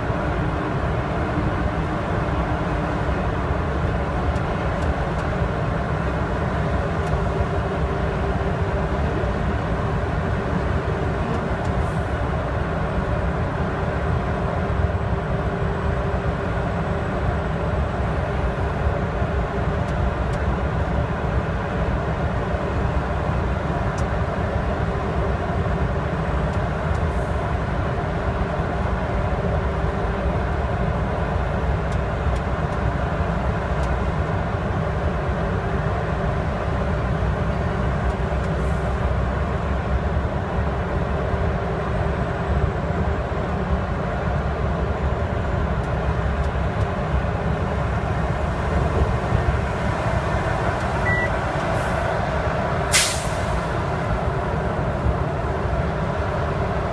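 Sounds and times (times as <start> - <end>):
truck diesel engine drone: 0.0 - 56.9.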